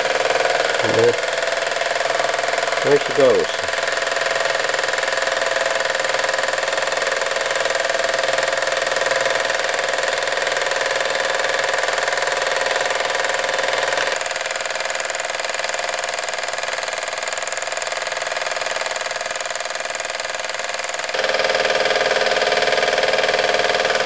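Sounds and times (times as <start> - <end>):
toy steam engine running: 0.0 - 24.0.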